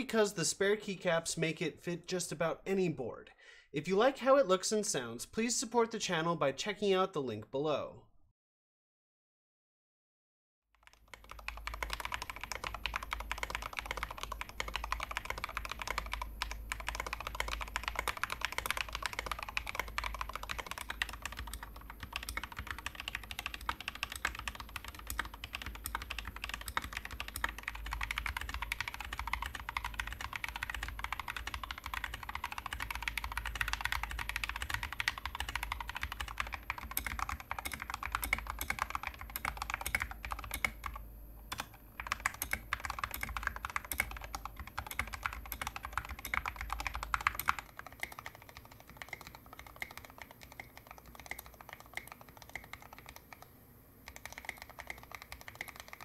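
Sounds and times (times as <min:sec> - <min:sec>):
fast typing on mechanical keyboards: 0:10.8 - 0:56.0.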